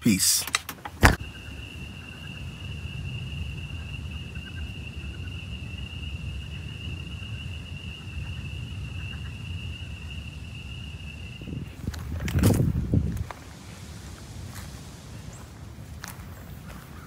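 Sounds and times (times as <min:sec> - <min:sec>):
high-pitched insect chorus: 0:01.0 - 0:17.0
wind rumble on microphone: 0:01.0 - 0:17.0.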